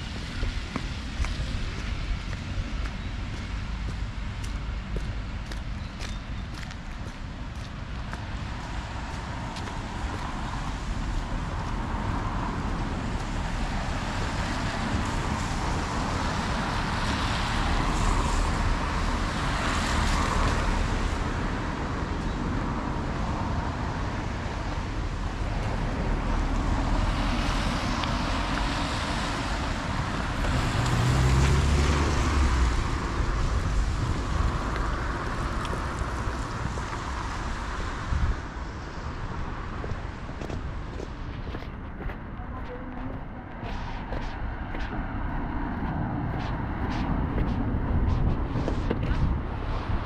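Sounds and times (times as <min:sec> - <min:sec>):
cars passing: 0:00.0 - 0:50.0
heavy vehicle rumble: 0:00.0 - 0:50.0.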